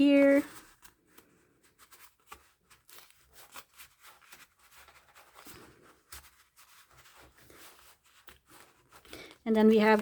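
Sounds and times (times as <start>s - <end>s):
paper and card being handled: 0.0s - 10.0s.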